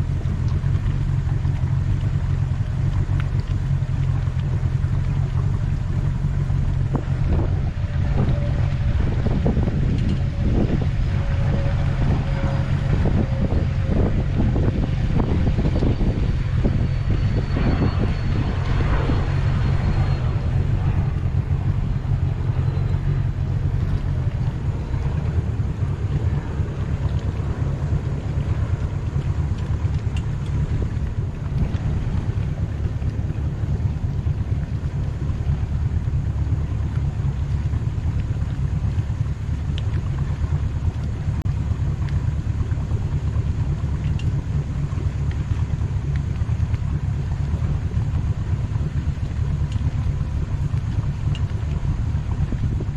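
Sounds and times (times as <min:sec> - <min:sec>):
boat engine droning: 0:00.0 - 0:52.9
wind rumble on microphone: 0:00.0 - 0:52.9.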